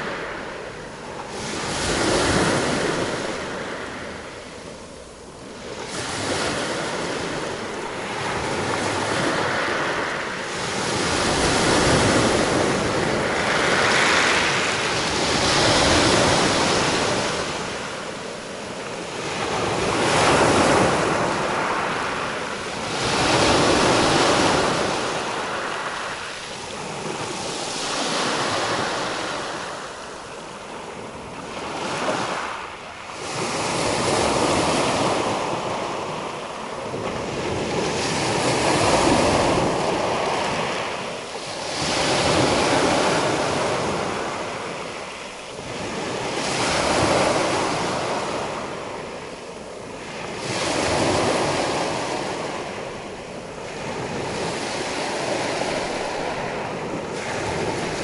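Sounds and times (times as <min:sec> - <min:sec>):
surf waves breaking on shore: 0:00.0 - 0:58.0.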